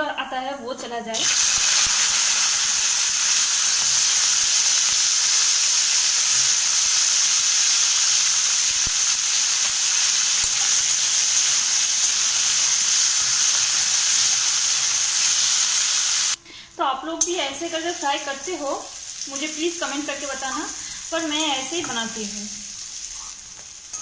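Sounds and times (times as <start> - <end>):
beans sizzling in hot oil: 1.2 - 16.4, 17.8 - 24.0.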